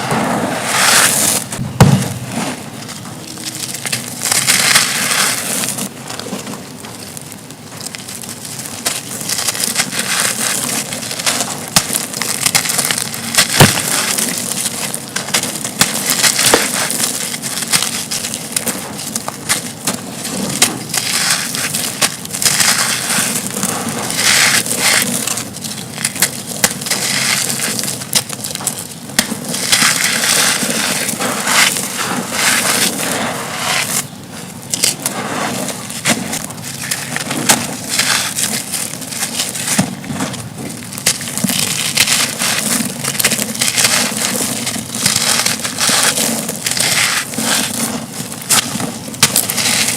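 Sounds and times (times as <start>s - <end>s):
concrete chunks crunching: 0.0s - 49.9s.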